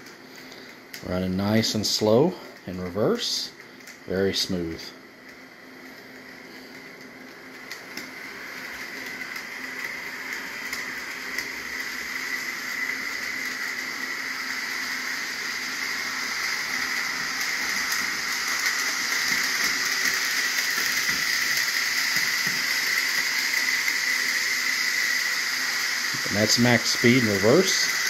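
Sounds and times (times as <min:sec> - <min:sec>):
model train motor whine: 0:00.0 - 0:28.0.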